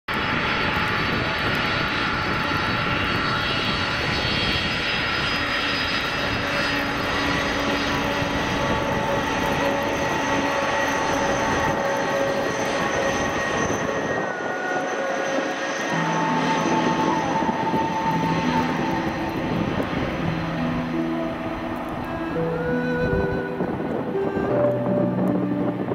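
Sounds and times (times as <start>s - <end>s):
jet engines at takeoff thrust: 0.1s - 25.9s.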